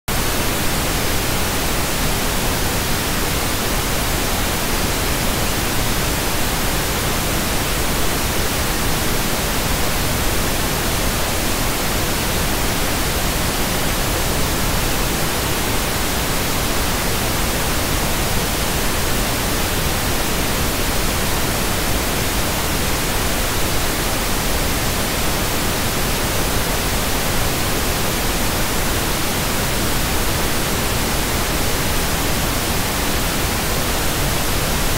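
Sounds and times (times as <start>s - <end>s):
static hiss: 0.1s - 34.9s.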